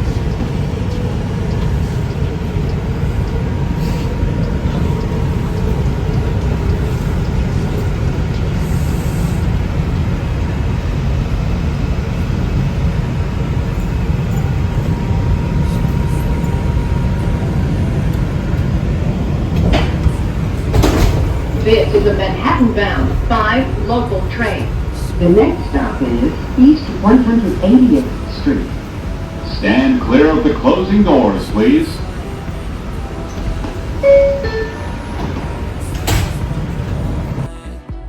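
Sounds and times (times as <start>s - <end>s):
subway car rumble: 0.0s - 38.0s.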